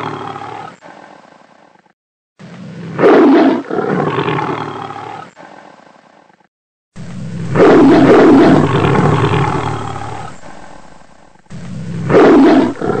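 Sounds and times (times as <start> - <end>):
tigers roaring and snarling: 0.0 - 1.9, 2.5 - 6.4, 7.2 - 13.0.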